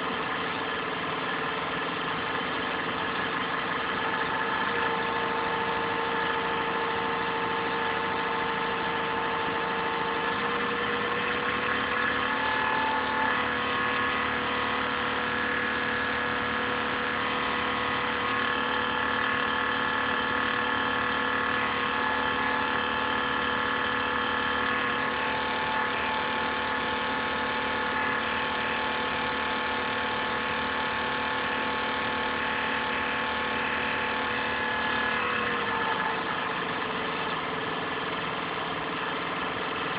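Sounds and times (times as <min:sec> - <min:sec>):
laptop cooling fan whirring: 0:00.0 - 0:39.9.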